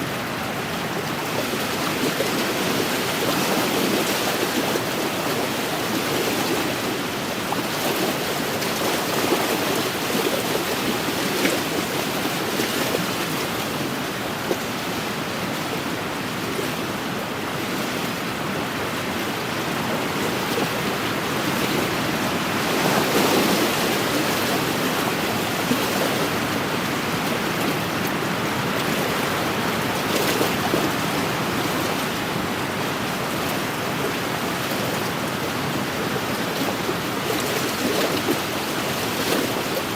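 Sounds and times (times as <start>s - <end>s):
small waves lapping on shore: 0.0s - 39.9s
wind: 0.0s - 39.9s.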